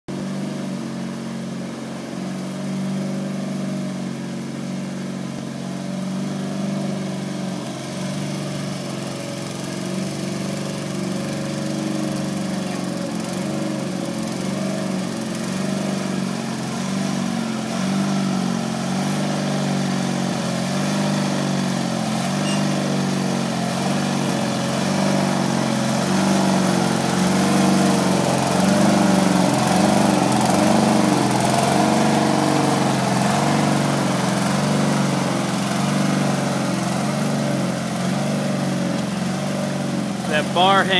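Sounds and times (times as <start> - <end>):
garden tractor engine running: 0.1 - 40.9
grader dragging over gravel: 4.1 - 40.9.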